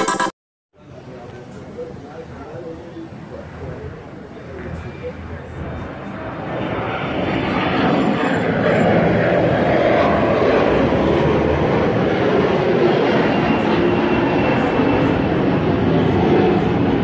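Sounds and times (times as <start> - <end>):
airplane engine flying over: 0.8 - 17.0.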